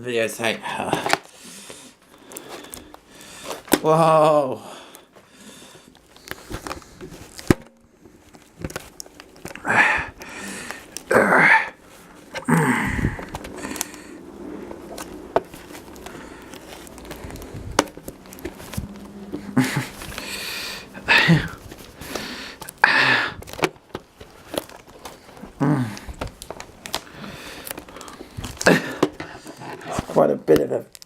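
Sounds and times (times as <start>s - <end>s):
plastic wrapping crinkling: 0.0s - 31.0s
packing tape peeling and tearing: 1.0s - 4.2s, 4.9s - 31.0s.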